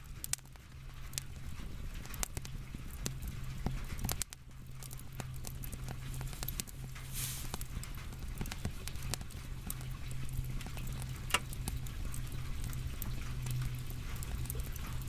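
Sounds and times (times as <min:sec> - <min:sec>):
steady low hum: 0:00.0 - 0:15.0
wood fire crackling and popping: 0:00.0 - 0:15.0.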